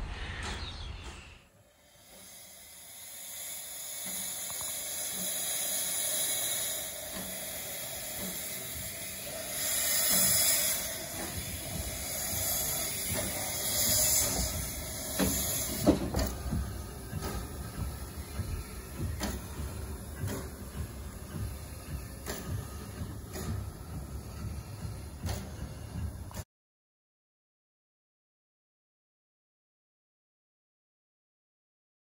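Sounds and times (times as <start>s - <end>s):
steam locomotive hissing: 0.0s - 26.4s.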